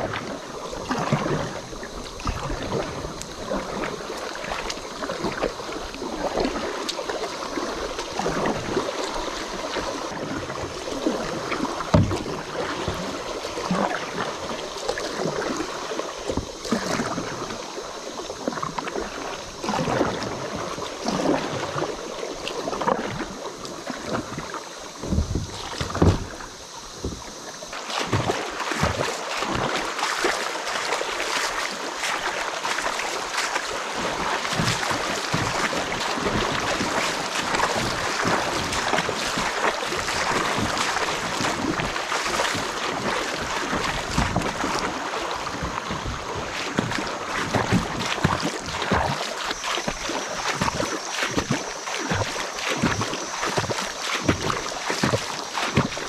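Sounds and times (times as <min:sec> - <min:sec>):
paddle strokes splashing: 0:00.0 - 0:56.0
rushing stream: 0:00.0 - 0:56.0.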